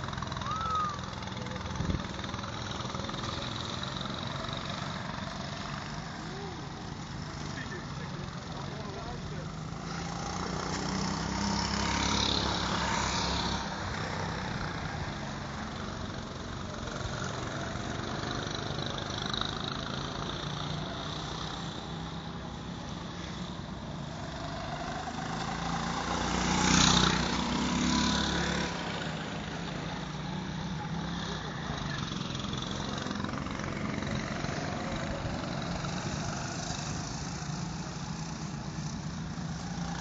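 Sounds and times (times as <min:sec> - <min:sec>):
go-kart engines: 0:00.0 - 0:40.0.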